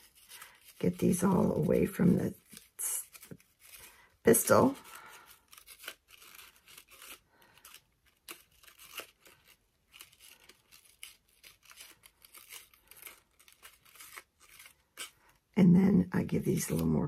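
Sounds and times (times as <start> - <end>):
paper rustling and crinkling: 0.0 - 15.6.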